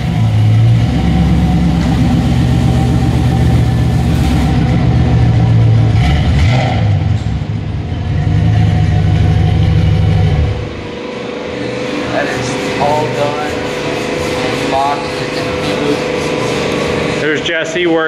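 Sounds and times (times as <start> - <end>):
engine running through exhaust: 0.0 - 17.7.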